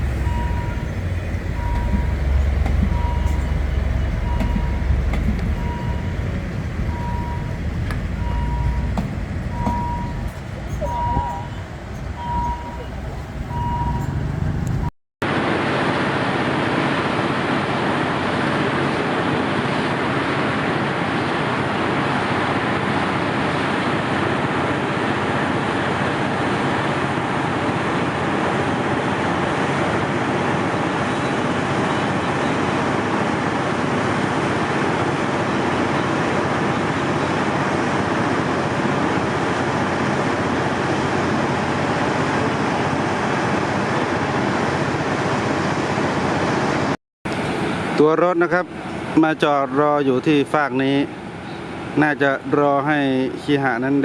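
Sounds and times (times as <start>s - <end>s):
vehicle rumble and hiss: 0.0s - 54.0s.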